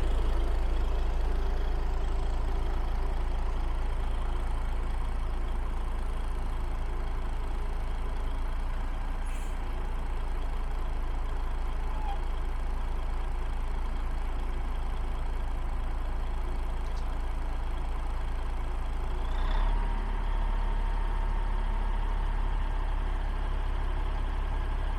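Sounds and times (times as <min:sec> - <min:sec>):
truck engine rumbling: 0:00.0 - 0:24.9.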